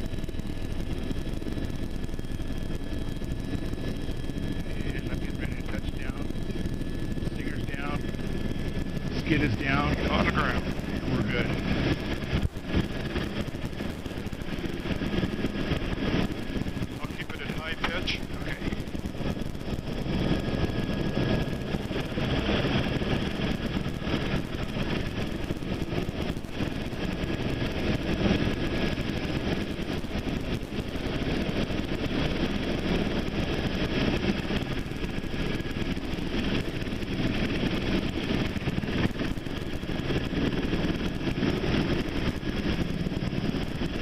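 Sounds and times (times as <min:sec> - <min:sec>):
helicopter engine and rotors: 0:00.0 - 0:44.0.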